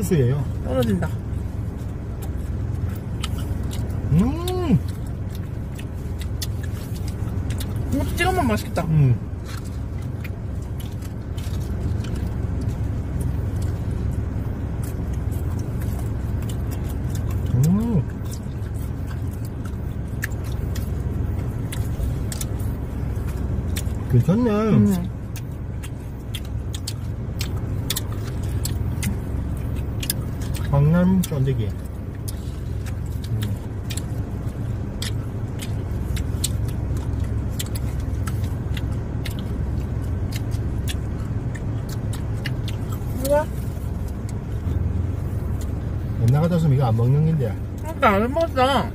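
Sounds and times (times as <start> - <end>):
car engine hum in cabin: 0.0 - 48.9
chewing: 0.0 - 48.9.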